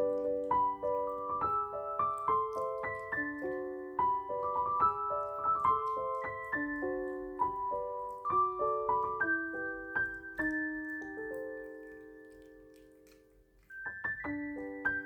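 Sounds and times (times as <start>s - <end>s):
solo piano music: 0.0s - 15.0s.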